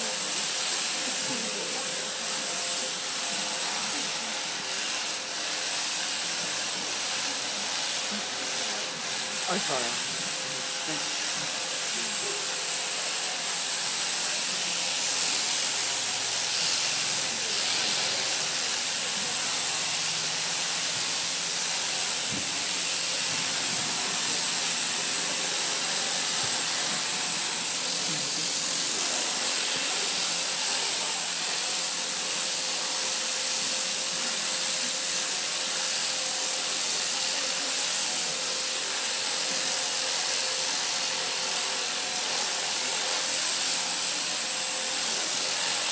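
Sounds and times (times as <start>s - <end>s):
electric shears buzzing: 0.0s - 45.9s.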